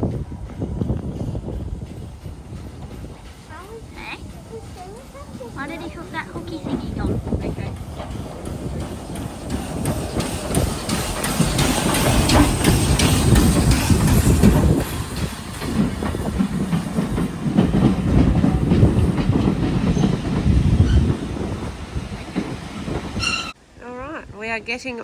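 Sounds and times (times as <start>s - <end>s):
train wheels clacking over rail joints: 0.0s - 23.6s.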